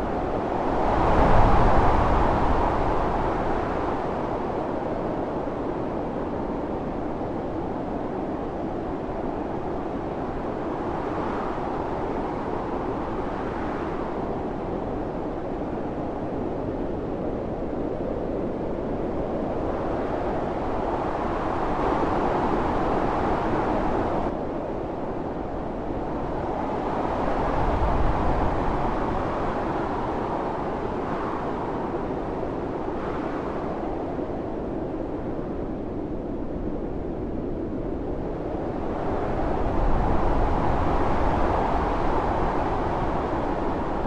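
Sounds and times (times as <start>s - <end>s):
howling storm wind: 0.0s - 44.0s.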